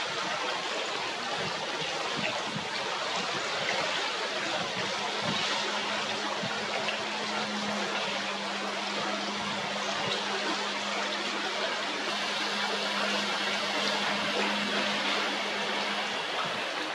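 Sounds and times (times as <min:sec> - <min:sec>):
river water flowing: 0:00.0 - 0:16.9
steady low hum: 0:00.1 - 0:16.9.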